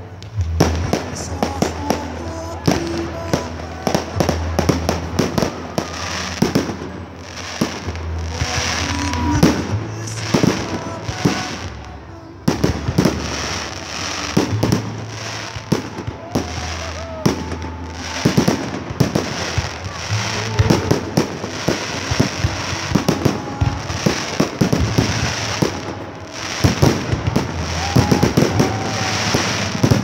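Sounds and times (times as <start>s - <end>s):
fireworks bangs: 0.1s - 30.0s.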